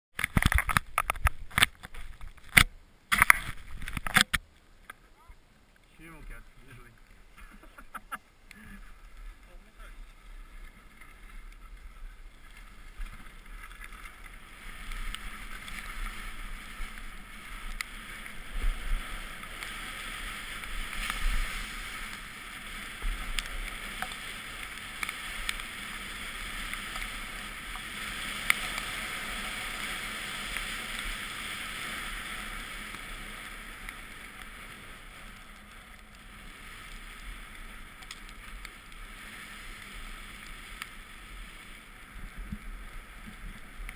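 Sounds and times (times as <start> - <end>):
skis hissing on snow: 8.6 - 43.9.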